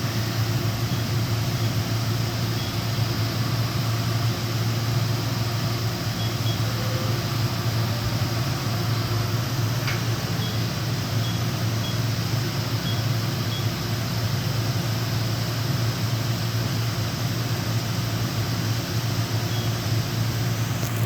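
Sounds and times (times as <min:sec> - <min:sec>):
machining center humming: 0:00.0 - 0:21.0.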